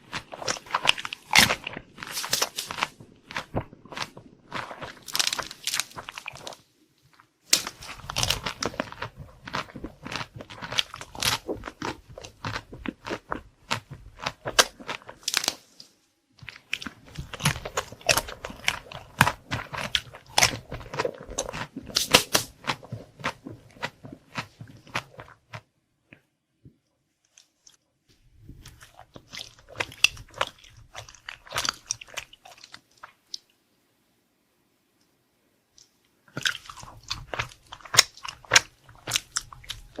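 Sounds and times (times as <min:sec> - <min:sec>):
crunching and chewing: 0:00.0 - 0:26.2, 0:28.5 - 0:33.5, 0:35.8 - 0:40.0.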